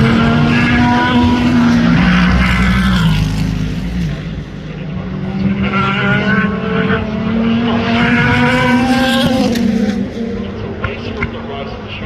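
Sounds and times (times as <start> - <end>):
race car engines at speed: 0.0 - 12.0.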